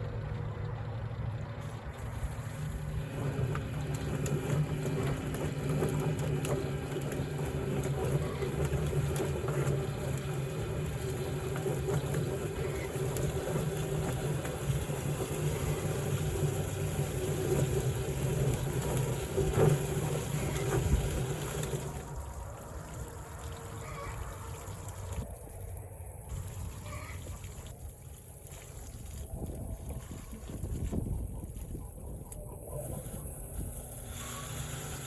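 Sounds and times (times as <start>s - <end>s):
motor humming: 0.0s - 25.4s, 29.2s - 35.0s.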